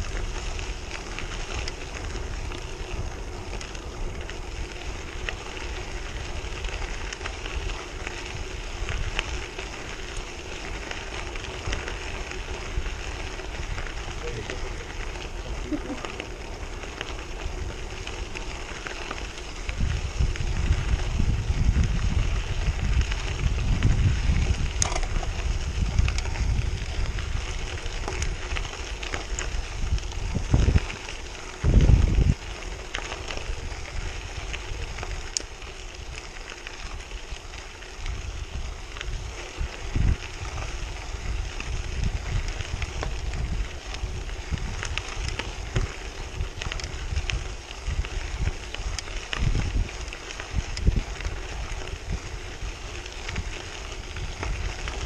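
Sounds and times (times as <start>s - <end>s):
bicycle tyres crunching on gravel: 0.0s - 55.0s
wind buffeting microphone: 0.0s - 55.0s.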